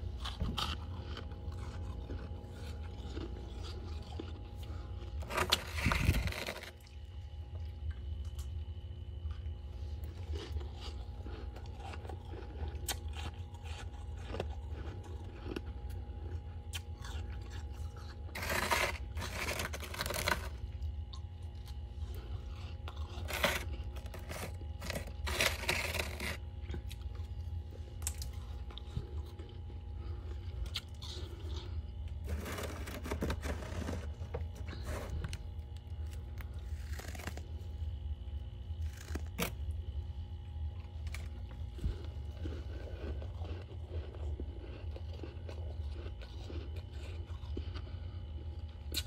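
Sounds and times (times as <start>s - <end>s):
frost crunching being chewed: 0.0s - 49.0s
steady low hum: 0.0s - 49.0s.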